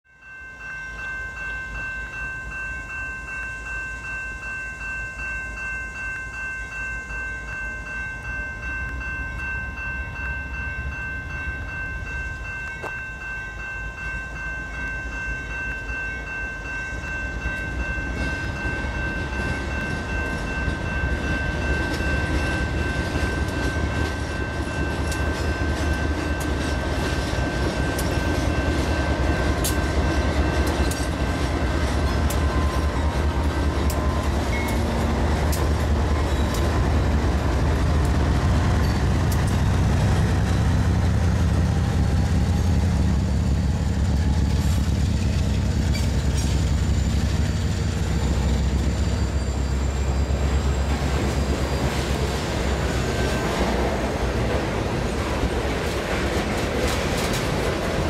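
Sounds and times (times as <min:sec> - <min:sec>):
high pulsing ringing: 0:00.1 - 0:53.9
diesel locomotive engine rumble: 0:00.6 - 0:58.0
train clattering: 0:00.6 - 0:58.0
train wheel noise: 0:00.6 - 0:58.0.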